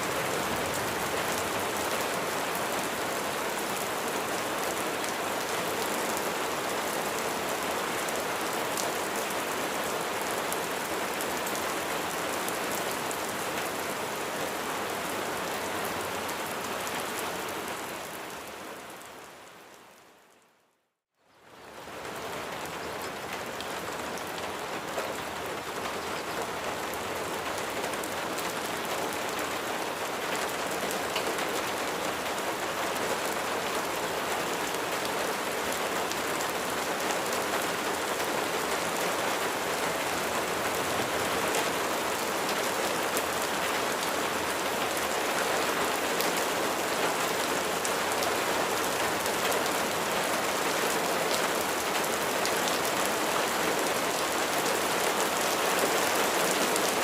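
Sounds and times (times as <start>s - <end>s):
heavy rain falling: 0.0s - 20.2s, 21.4s - 57.0s.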